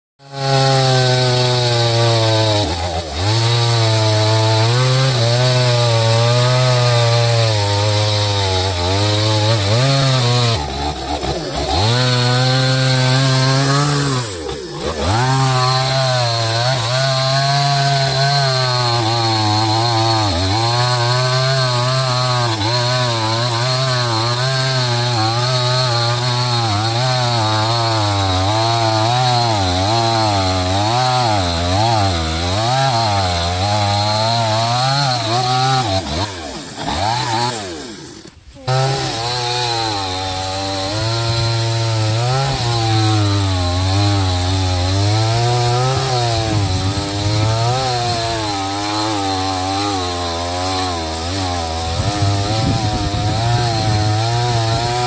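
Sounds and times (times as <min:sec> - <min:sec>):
chainsaw cutting log: 0:00.2 - 0:55.0.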